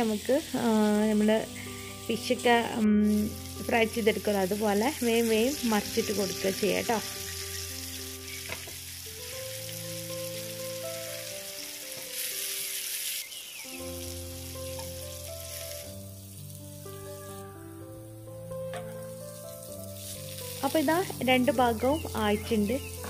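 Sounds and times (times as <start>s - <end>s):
background music of held chords: 0.0s - 12.7s, 13.6s - 23.0s
chicken sizzling in a pan: 0.0s - 23.0s.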